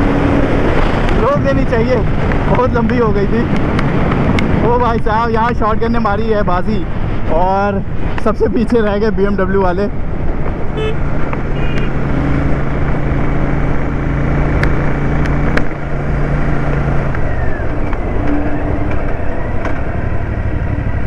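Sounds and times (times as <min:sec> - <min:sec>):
motorcycle engine hum: 0:00.0 - 0:21.0
road and wind noise: 0:00.0 - 0:21.0.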